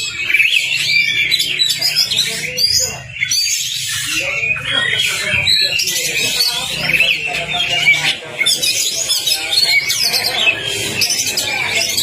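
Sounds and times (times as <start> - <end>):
bird singing fast varied song: 0.0 - 12.0.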